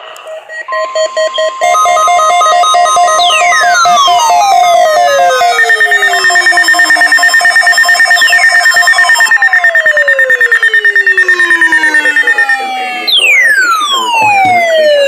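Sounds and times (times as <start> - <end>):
rapid high beeping: 0.7 - 15.0
weather radio alarm tone: 1.0 - 15.0
falling electronic sweeps: 1.7 - 15.0.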